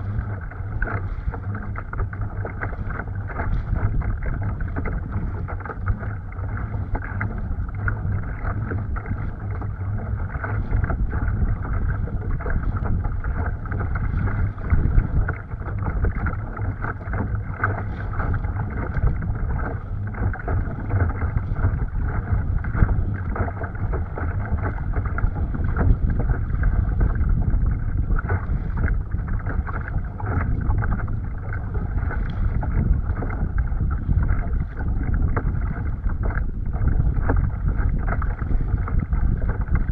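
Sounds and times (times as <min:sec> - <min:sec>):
water slapping against kayak hull: 0:00.0 - 0:39.9
wind buffeting microphone: 0:00.0 - 0:39.9.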